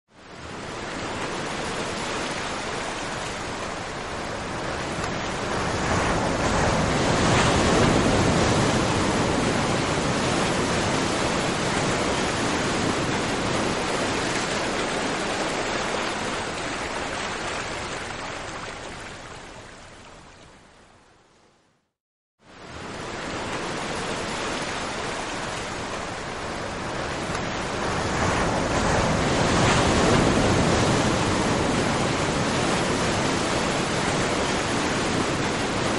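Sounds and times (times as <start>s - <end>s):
surf rushing: 0.3s - 19.4s, 22.5s - 35.9s.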